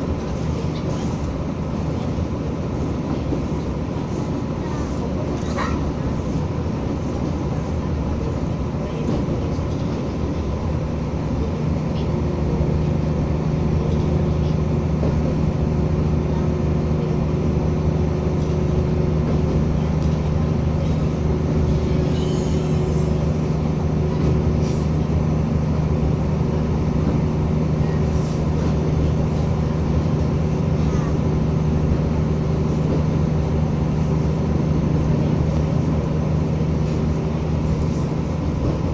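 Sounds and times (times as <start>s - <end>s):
rail running noise: 0.0s - 38.9s
railcar engine hum: 0.0s - 38.9s.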